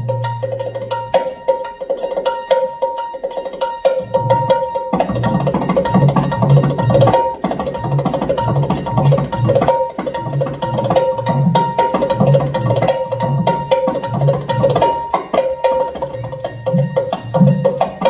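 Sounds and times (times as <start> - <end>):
hand drum playing fast rhythm: 0.0 - 18.0.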